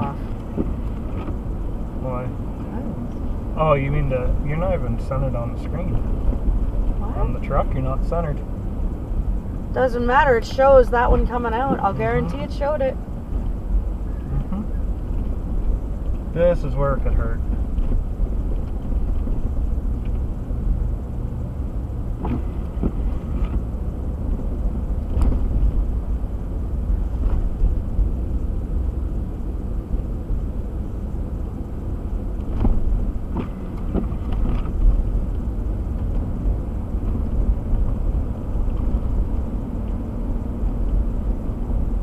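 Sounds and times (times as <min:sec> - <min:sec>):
car road and engine rumble: 0:00.0 - 0:42.0.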